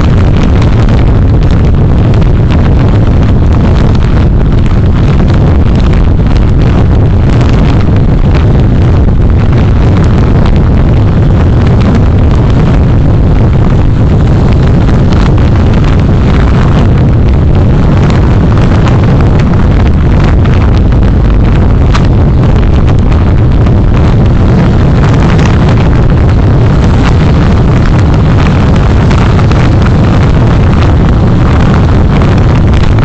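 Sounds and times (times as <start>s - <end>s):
vehicle road and engine noise: 0.0s - 33.0s
wind buffeting on microphone: 0.0s - 33.0s.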